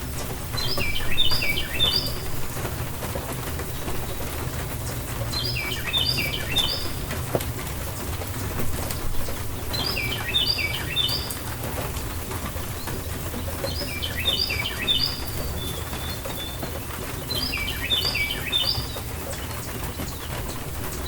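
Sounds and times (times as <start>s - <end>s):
steady rain: 0.0s - 21.0s
songbird singing: 0.4s - 21.0s.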